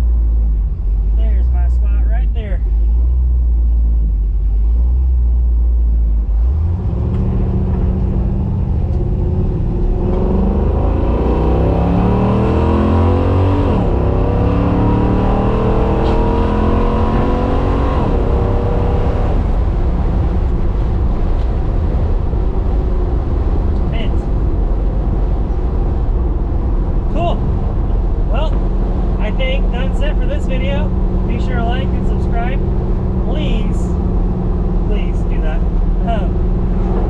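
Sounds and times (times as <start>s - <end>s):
car engine accelerating hard: 2.1s - 37.0s.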